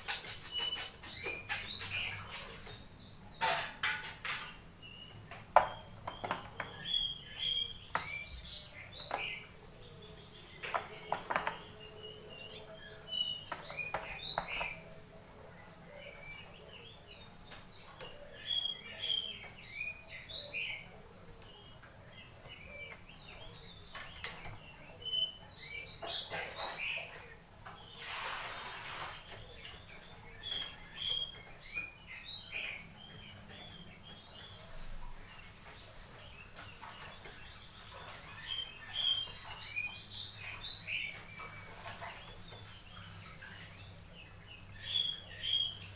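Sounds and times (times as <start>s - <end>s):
bird song chirping: 0.0s - 45.9s.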